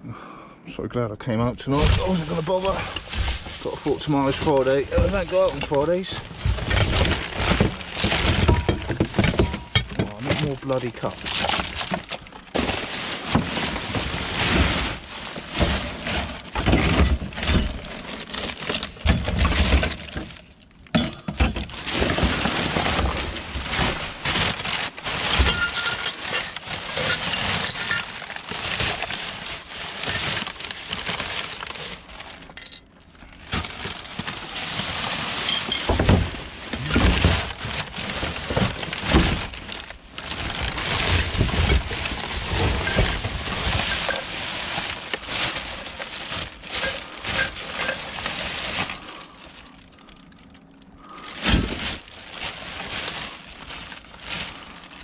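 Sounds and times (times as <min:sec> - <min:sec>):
plastic bags rustling: 0:01.4 - 0:55.0
items knocking together: 0:01.7 - 0:49.3.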